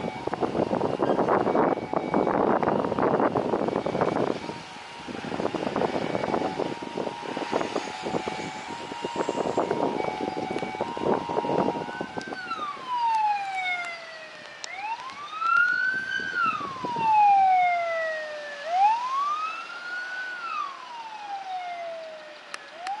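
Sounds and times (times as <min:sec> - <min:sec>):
ambulance siren wailing: 0:00.0 - 0:23.0
road traffic noise: 0:00.0 - 0:23.0.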